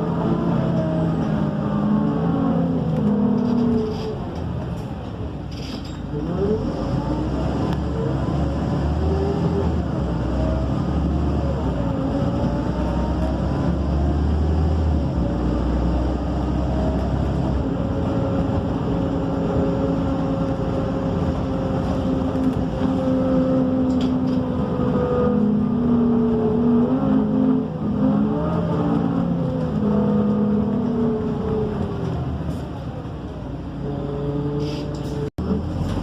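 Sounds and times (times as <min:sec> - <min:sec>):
bus engine running: 0:00.0 - 0:36.0.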